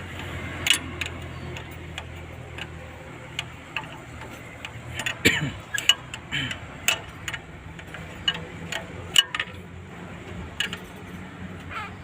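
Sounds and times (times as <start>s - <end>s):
hand tools clicking and tapping: 0.0s - 11.7s.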